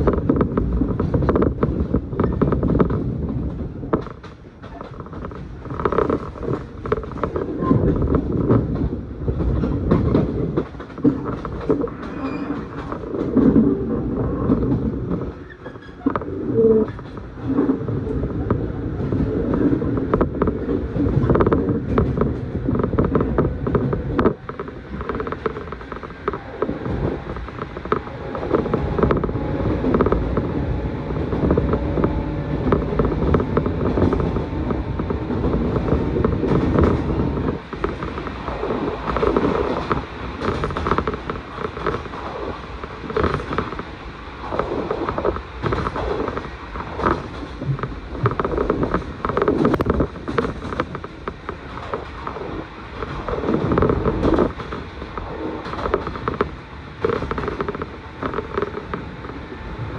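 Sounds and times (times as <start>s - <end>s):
train car body creaking: 0.0s - 59.9s
train wheels rumbling on rail: 0.0s - 59.9s.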